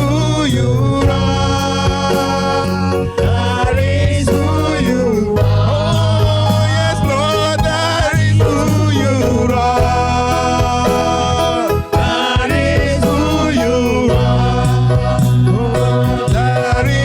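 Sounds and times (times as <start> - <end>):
live gospel band music: 0.0 - 17.0.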